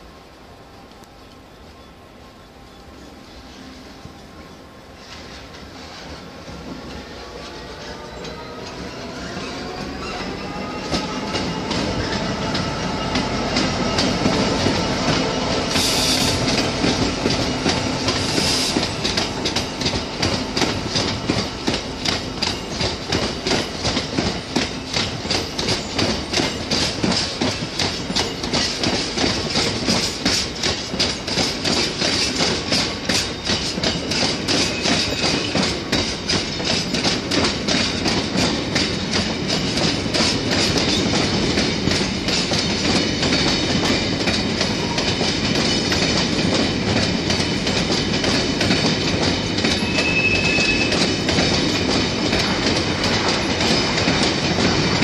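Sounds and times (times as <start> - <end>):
diesel locomotive engine: 0.0 - 55.0
wheels clacking over rail joints: 5.0 - 55.0.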